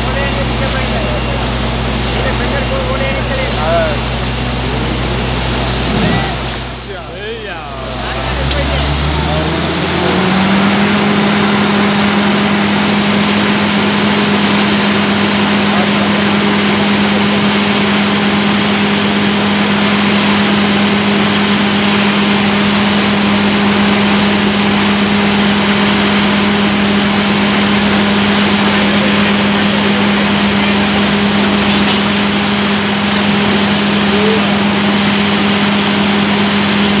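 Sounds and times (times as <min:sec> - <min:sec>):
drilling rig engine humming: 0:00.0 - 0:37.0
water rushing and splashing: 0:00.0 - 0:37.0.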